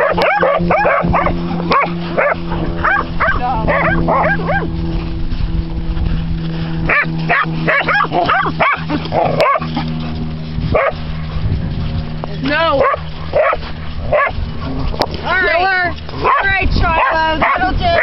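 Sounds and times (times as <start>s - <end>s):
dogs barking: 0.0s - 5.1s, 6.8s - 11.9s, 12.5s - 18.0s.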